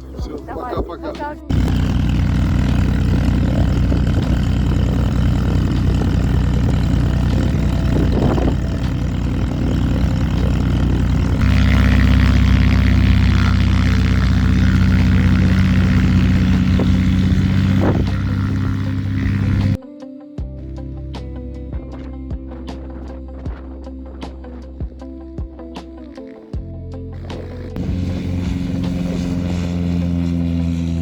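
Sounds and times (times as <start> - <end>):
propeller aircraft engine running: 1.5 - 19.8, 20.6 - 25.0, 27.2 - 31.0.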